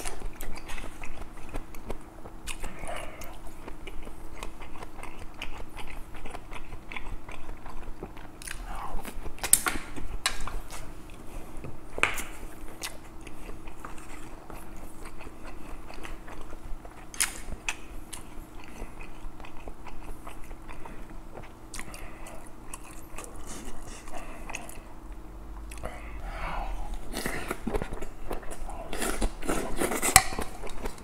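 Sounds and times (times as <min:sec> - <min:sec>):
close chewing and mouth sounds: 0:00.0 - 0:31.0
faint steady hum: 0:00.0 - 0:31.0.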